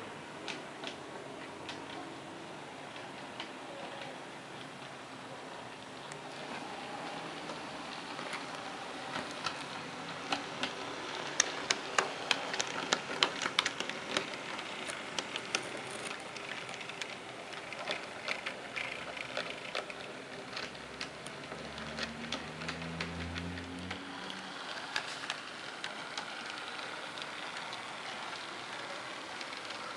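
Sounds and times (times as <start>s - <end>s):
wheels clicking on rails: 5.6s - 29.9s.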